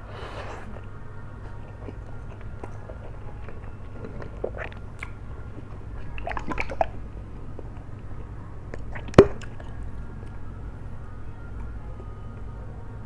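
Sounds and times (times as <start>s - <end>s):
wet chewing of noodles: 0.0s - 10.7s.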